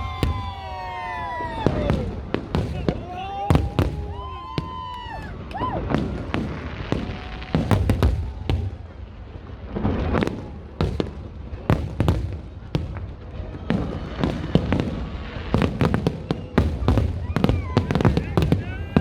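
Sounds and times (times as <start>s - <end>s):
deep fireworks booms: 0.0s - 19.0s
fireworks bangs and crackles: 0.0s - 19.0s.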